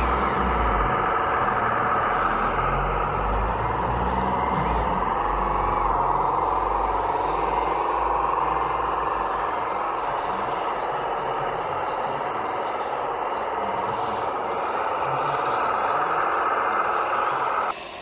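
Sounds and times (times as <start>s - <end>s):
high motor whine: 0.0s - 18.0s.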